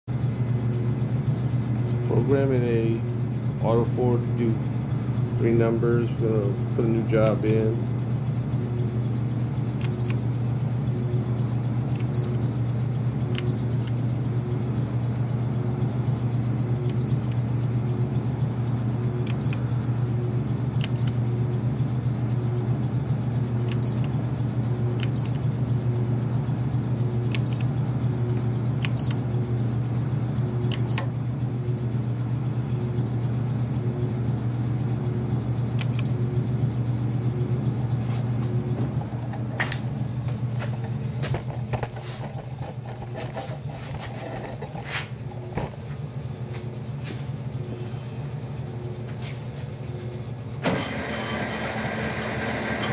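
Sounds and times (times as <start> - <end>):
steady low pulsing hum: 0.1 - 50.7.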